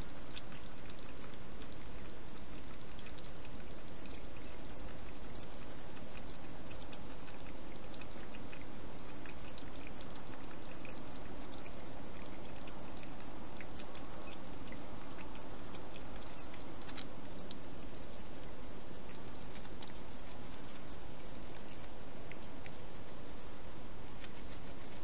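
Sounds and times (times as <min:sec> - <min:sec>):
hedgehog chewing and smacking: 0:00.1 - 0:23.4.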